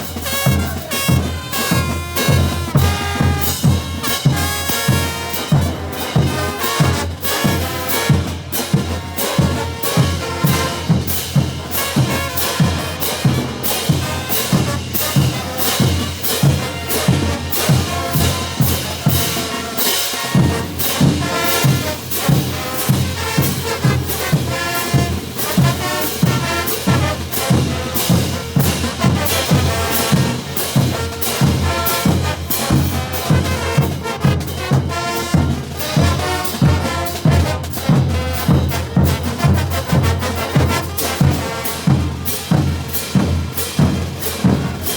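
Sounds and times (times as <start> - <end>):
bass drum and snare beat: 0.0 - 44.9
brass band playing: 0.0 - 44.9.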